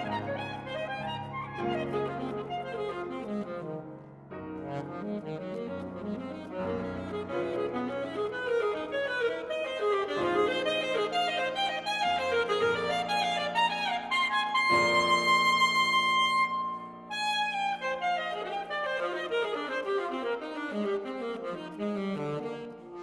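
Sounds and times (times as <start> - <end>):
grand piano: 0.0 - 23.0
soprano saxophone: 0.0 - 23.0.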